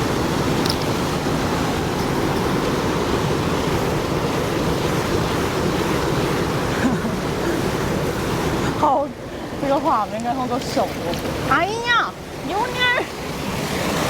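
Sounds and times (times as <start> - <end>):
flowing stream water: 0.0 - 14.0.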